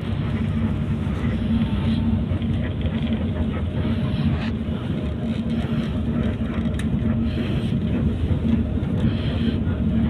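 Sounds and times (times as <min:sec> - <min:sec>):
bus engine hum: 0:00.0 - 0:10.0
road and tyre rumble: 0:00.0 - 0:10.0.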